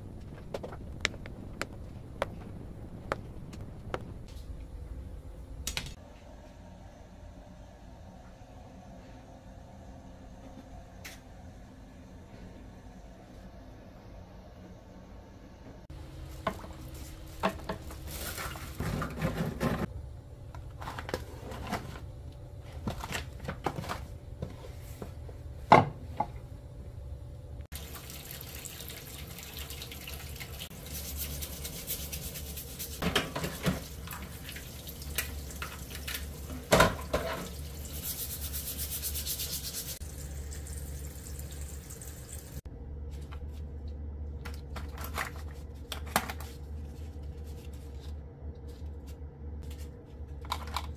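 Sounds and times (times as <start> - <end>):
low hum and hiss: 0.0 - 50.9.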